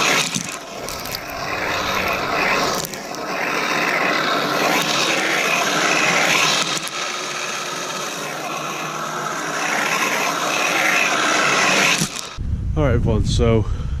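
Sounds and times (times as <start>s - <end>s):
electric motor whirring: 0.0s - 12.4s
tracks churning snow: 0.0s - 12.4s.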